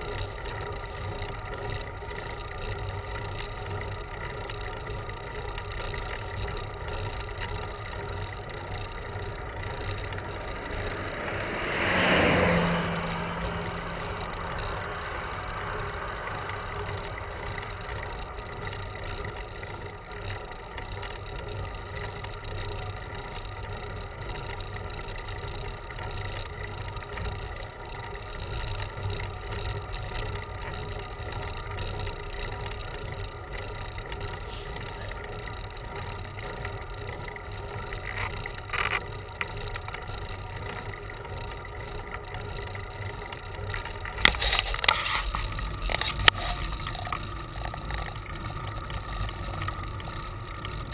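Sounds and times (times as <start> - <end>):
bicycle rattling: 0.0 - 50.9
wind and road noise: 0.0 - 50.9.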